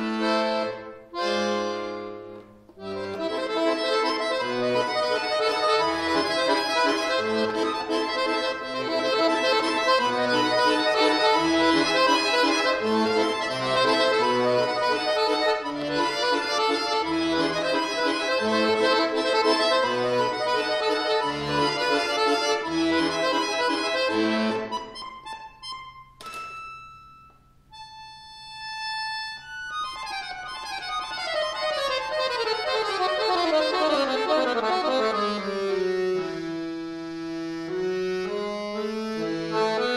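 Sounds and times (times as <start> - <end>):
accordion playing classical piece: 0.0 - 39.9.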